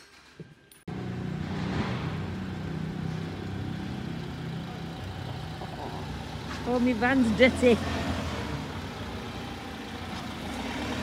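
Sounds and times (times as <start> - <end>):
diesel engine idling: 0.9 - 11.0.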